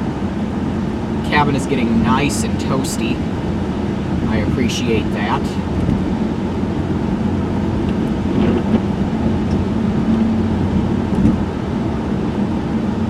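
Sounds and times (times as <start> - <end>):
car engine hum: 0.0 - 13.0
road and wind noise: 0.0 - 13.0.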